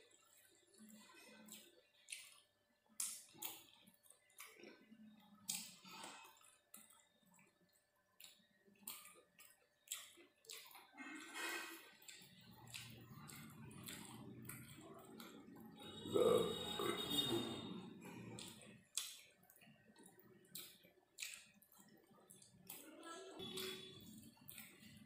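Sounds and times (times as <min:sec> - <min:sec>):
fingers squishing wet food: 0:00.4 - 0:11.2, 0:11.8 - 0:15.8, 0:18.0 - 0:25.0.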